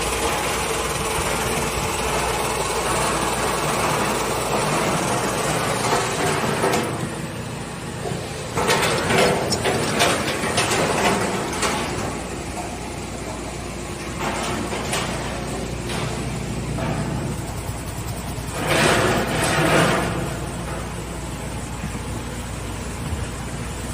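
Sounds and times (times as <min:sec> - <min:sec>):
machinery clattering: 0:00.0 - 0:23.9
packaging machinery running: 0:00.0 - 0:23.9.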